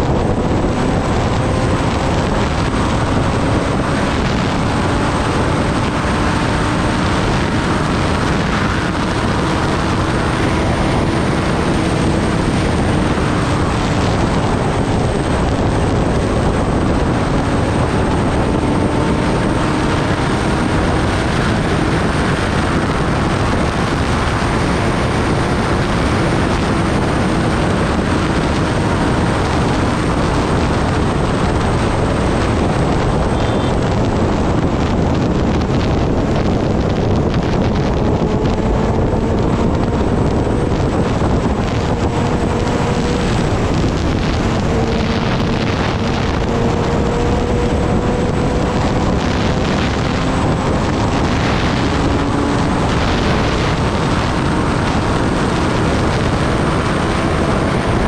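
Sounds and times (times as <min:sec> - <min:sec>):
motorcycle engine cruising: 0:00.0 - 0:58.0
wind rushing on microphone: 0:00.0 - 0:58.0.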